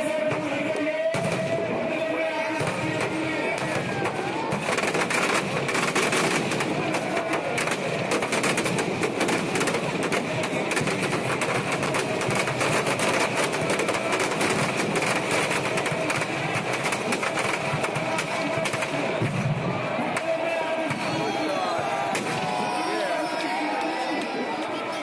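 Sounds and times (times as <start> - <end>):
firecrackers crackling: 0.1 - 22.8.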